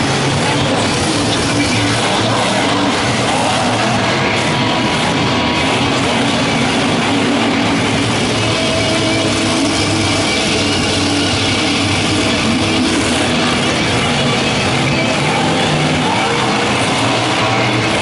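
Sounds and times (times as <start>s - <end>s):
rock music: 0.0s - 18.0s
truck engine running loud: 0.0s - 18.0s.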